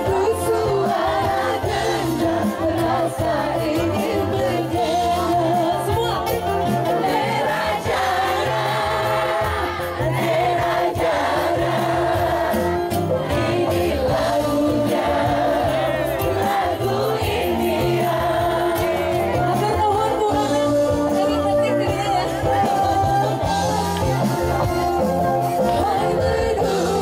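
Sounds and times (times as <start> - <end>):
man and women singing duet: 0.0 - 23.7, 25.7 - 27.0
loud amplified music with bass: 0.0 - 27.0.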